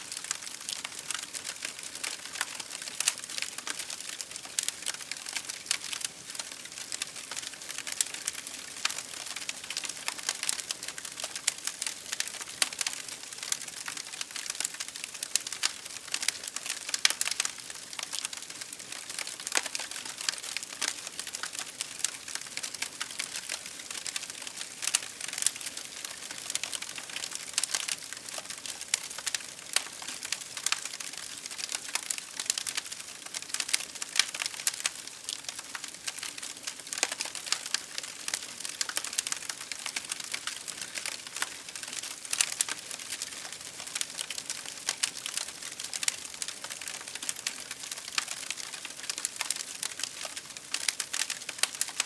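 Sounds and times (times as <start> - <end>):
campfire firewood crackling: 0.0 - 52.0.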